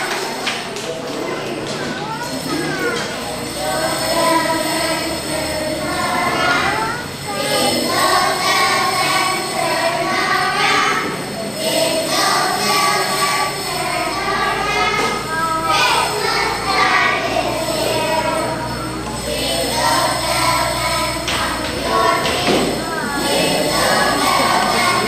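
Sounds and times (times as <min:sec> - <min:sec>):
children singing together: 0:00.0 - 0:25.0
jingle bells shaken: 0:02.1 - 0:25.0.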